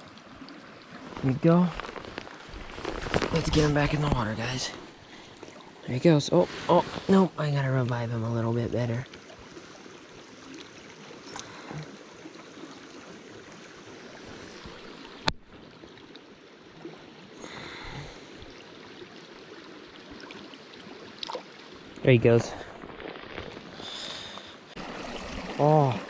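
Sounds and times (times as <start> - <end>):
mountain creek running: 0.0 - 26.0
rush of water: 0.0 - 26.0.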